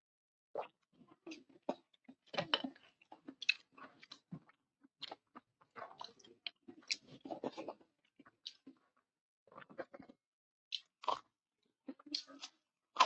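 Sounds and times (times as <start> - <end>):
person chewing food: 0.6 - 8.9, 9.5 - 13.0.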